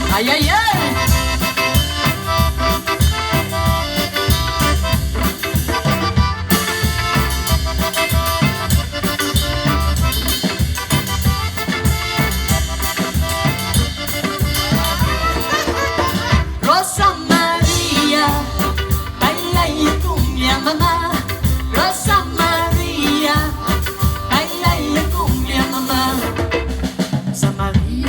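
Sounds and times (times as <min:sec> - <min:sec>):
accordion: 0:00.0 - 0:28.0
drum kit dance beat: 0:00.0 - 0:28.0.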